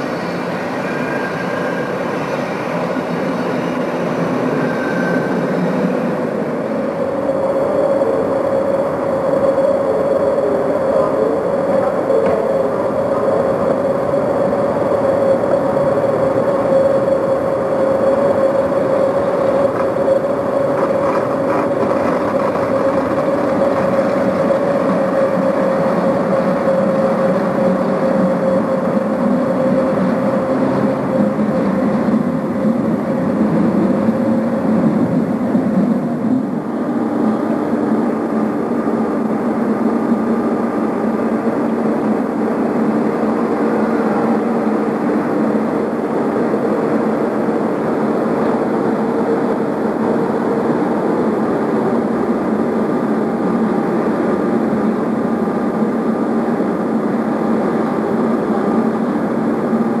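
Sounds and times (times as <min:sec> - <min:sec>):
electric locomotive passing: 0:00.0 - 1:00.0
passenger train moving on tracks: 0:00.0 - 1:00.0.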